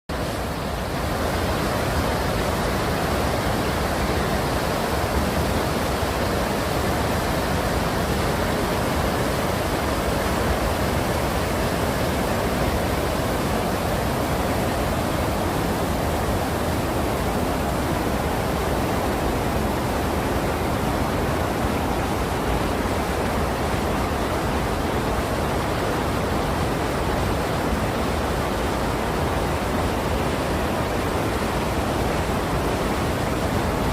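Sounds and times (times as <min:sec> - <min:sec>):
stream rushing: 0:00.1 - 0:33.9.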